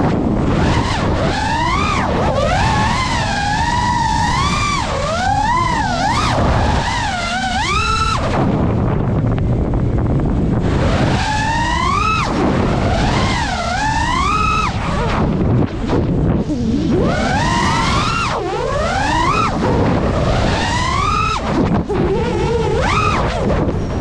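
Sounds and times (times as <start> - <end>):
drone motors whining: 0.0 - 24.0
wind rushing on microphone: 0.0 - 24.0.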